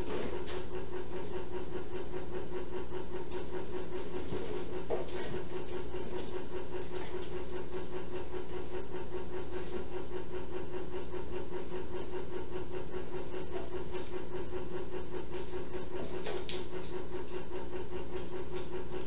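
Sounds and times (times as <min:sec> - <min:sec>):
steady appliance hum: 0:00.0 - 0:19.0.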